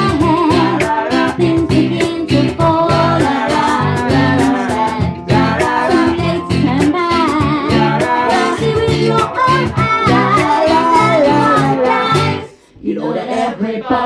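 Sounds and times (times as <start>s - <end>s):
strummed acoustic guitars: 0.0s - 12.5s
woman singing into a microphone: 0.0s - 12.5s
bass guitar: 0.0s - 12.6s.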